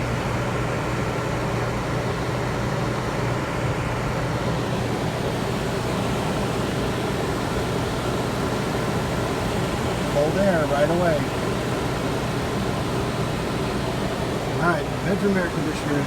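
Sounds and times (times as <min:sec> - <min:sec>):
air conditioner blowing air: 0:00.0 - 0:16.0.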